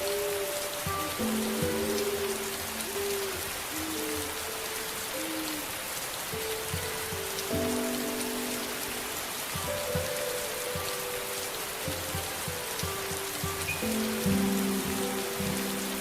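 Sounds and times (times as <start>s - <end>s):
soft held music notes: 0.0s - 16.0s
steady rain falling: 0.0s - 16.0s.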